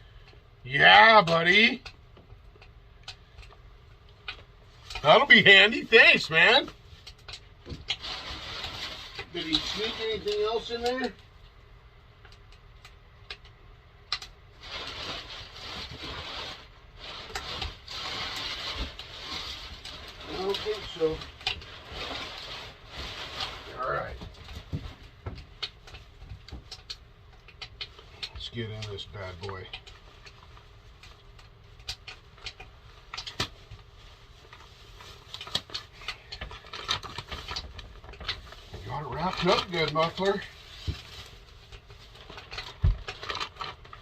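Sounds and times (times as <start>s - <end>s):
packing material rustling: 4.7s - 11.2s, 14.5s - 27.0s, 27.6s - 44.0s.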